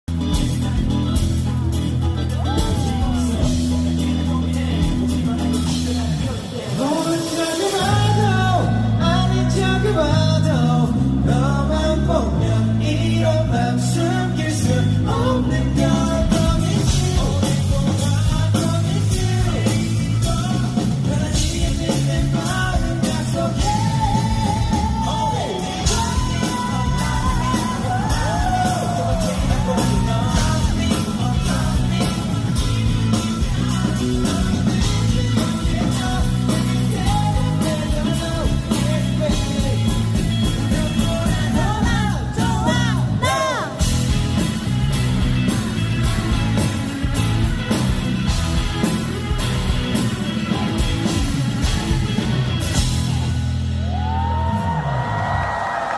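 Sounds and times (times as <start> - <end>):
rock band playing: 0.0 - 55.9
man singing: 0.1 - 44.9.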